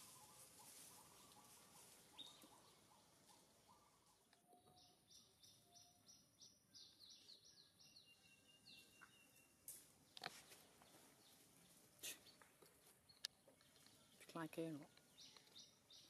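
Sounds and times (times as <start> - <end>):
faint bird song: 0.0 - 16.0.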